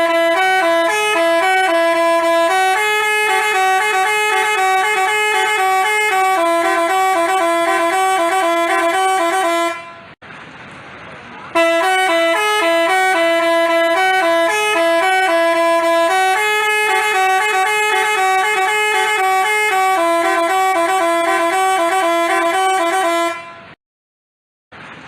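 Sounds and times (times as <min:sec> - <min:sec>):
bus horn playing a melody: 0:00.0 - 0:10.2, 0:11.5 - 0:23.8.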